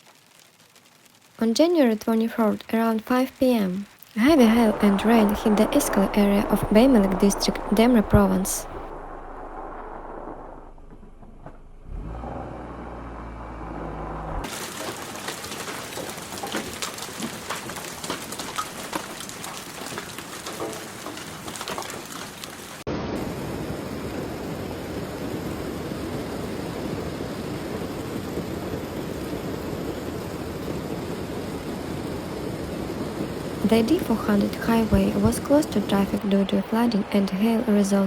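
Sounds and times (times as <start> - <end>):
hailstones ticking on hard surfaces: 0.0 - 8.9, 14.4 - 38.0
heavy rain: 0.0 - 38.0.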